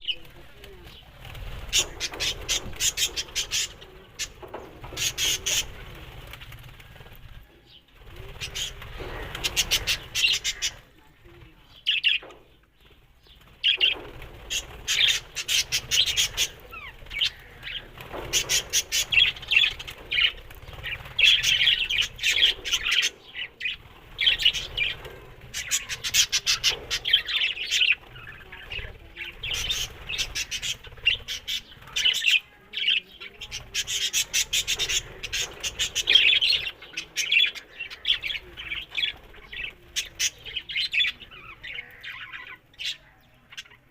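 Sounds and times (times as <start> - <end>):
parrots chattering: 1.6 - 6.1, 8.4 - 11.0, 13.6 - 43.9.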